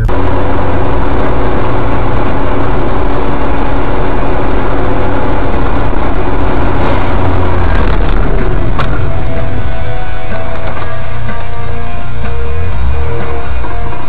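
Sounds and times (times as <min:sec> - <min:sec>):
car engine drone: 0:00.0 - 0:14.0
road noise inside car: 0:00.0 - 0:14.0.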